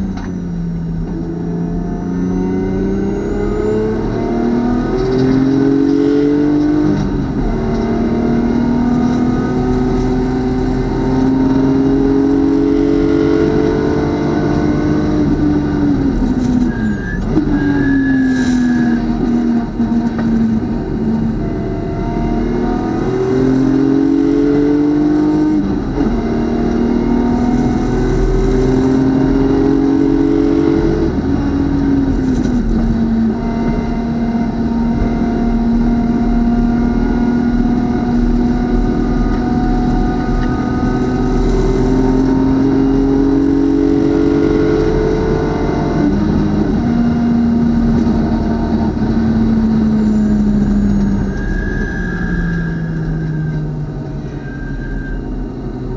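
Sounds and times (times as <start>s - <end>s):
race car engine revving: 1.0s - 54.6s.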